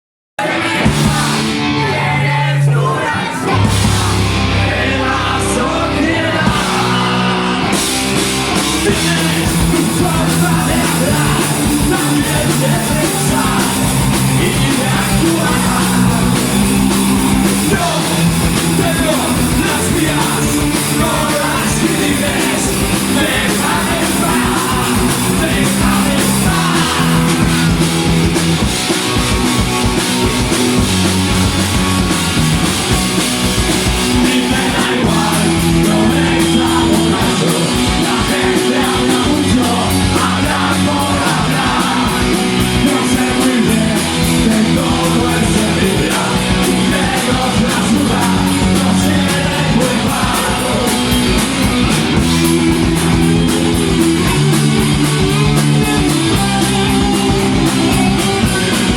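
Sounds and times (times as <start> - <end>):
punk rock band playing live: 0.4 - 58.9.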